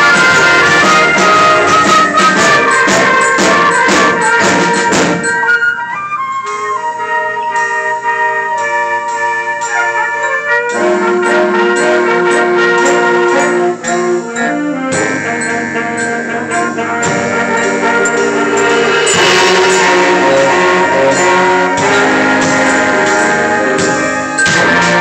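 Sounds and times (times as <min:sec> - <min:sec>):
baritone saxophone: 0:00.0 - 0:25.0
school band playing: 0:00.0 - 0:25.0.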